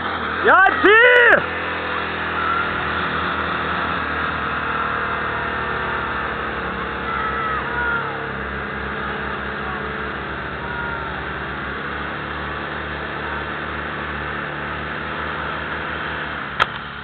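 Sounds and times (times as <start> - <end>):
fire pump engine running: 0.0 - 17.0.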